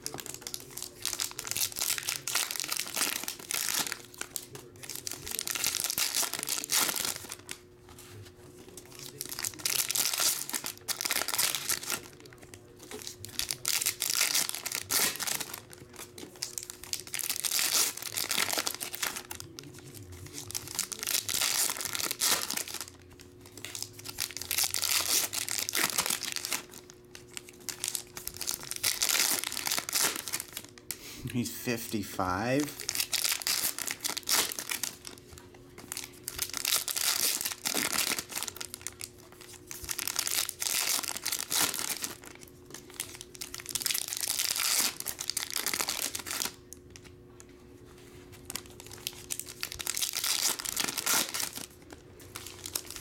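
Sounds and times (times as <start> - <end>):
foil packs tearing and crinkling: 0.0 - 7.6, 8.8 - 30.9, 32.7 - 35.2, 35.8 - 46.6, 48.5 - 53.0.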